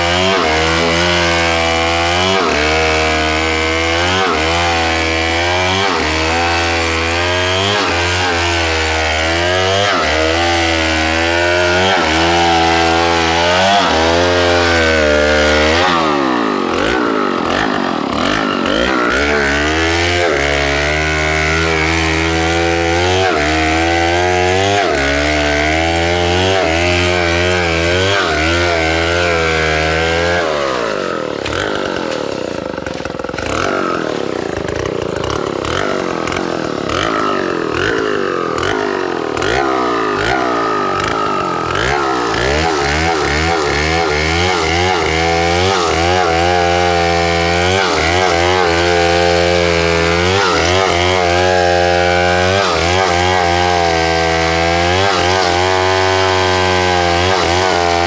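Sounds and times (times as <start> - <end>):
chainsaw engine running: 0.0 - 58.0.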